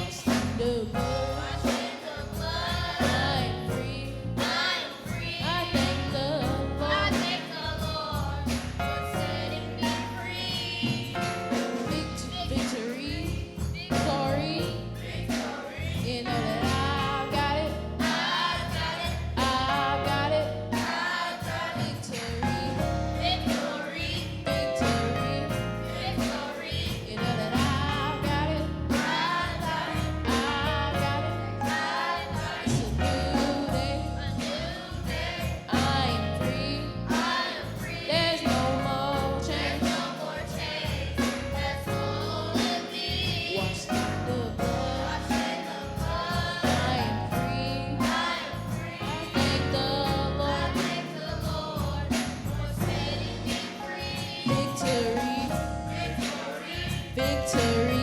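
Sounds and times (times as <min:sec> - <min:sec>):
choir singing gospel with band: 0:00.0 - 0:58.0.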